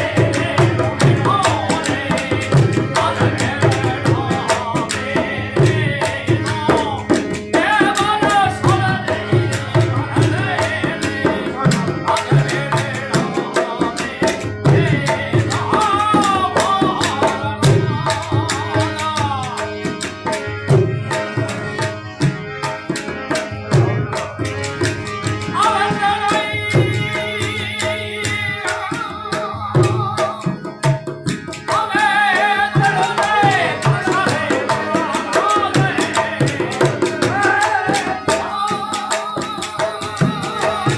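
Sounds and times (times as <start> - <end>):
hand drum rhythm: 0.0 - 20.1, 20.7 - 40.9
harmonium reeds: 0.0 - 40.9.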